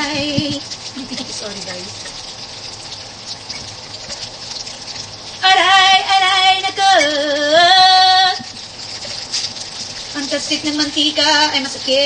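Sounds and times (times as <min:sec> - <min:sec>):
tofu sizzling in oil: 0:00.0 - 0:12.0.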